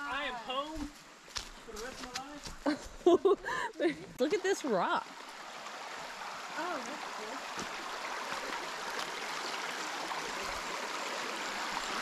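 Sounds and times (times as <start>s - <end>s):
creek running over stones: 0.0s - 12.0s.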